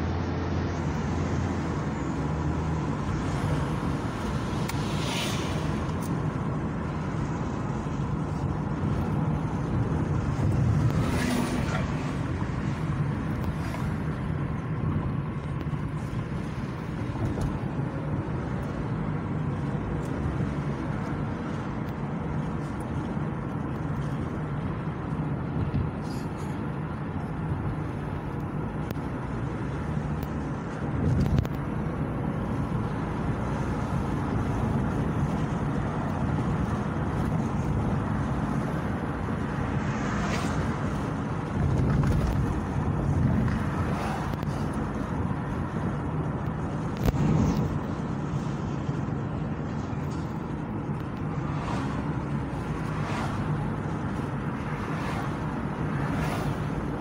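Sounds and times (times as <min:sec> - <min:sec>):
road and engine rumble: 0:00.0 - 0:57.0.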